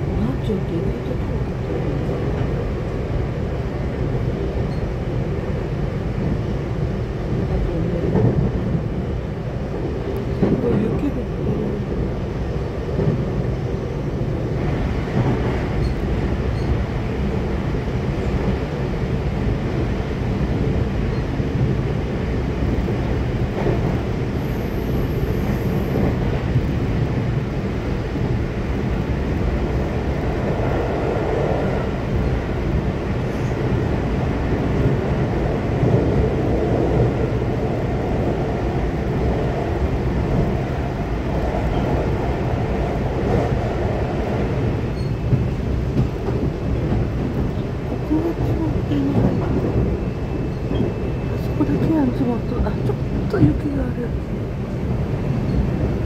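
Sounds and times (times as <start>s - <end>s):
train running through tunnel: 0.0s - 56.0s.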